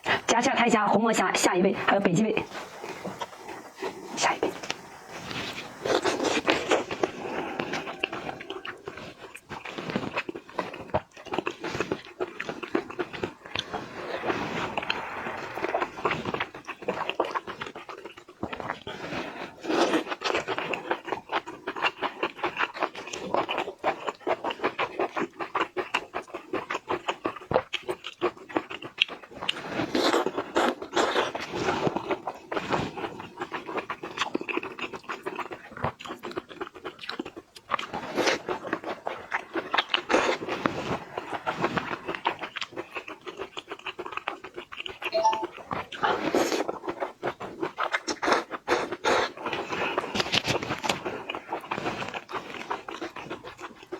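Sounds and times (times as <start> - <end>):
wet chewing and slurping: 0.0 - 0.5, 1.5 - 53.9.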